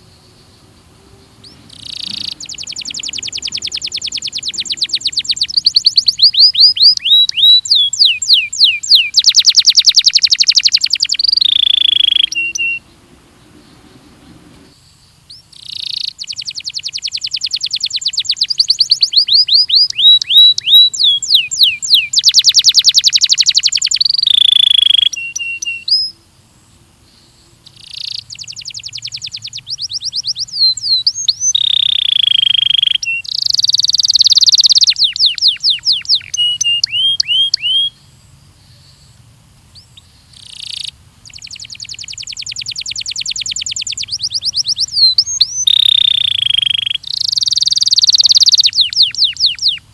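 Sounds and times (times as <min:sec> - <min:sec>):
canary singing trills: 0:00.0 - 0:26.2, 0:27.0 - 0:49.9.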